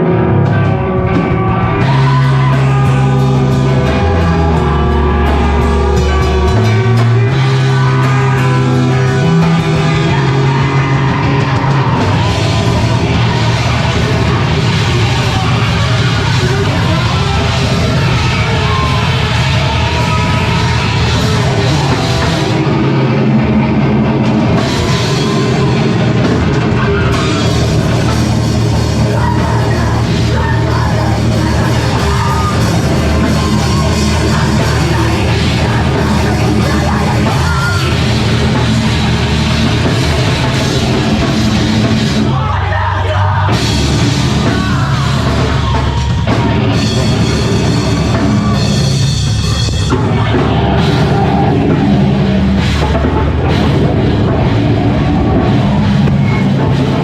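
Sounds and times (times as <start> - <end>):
drum kit: 0.0 - 57.0
rock band playing live: 0.0 - 57.0.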